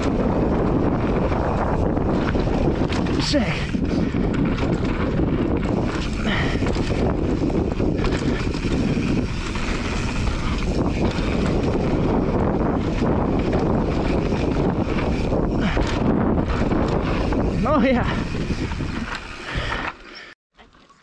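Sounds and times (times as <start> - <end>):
wind noise on microphone: 0.0 - 20.3
tyres rumbling on dirt: 0.0 - 20.4
bike rattling: 0.0 - 21.0.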